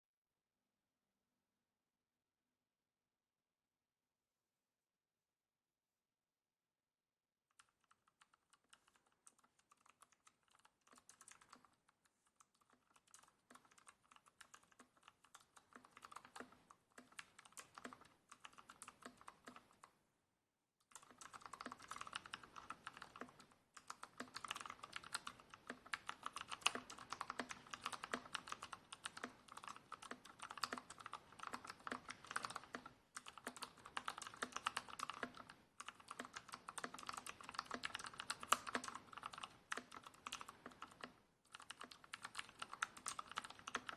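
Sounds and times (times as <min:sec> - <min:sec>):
keyboard typing clicks: 0:07.6 - 0:19.9, 0:20.9 - 0:43.9.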